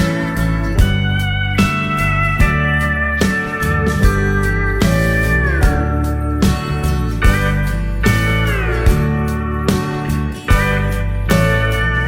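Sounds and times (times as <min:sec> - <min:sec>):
country music with slide guitar: 0:00.0 - 0:12.0.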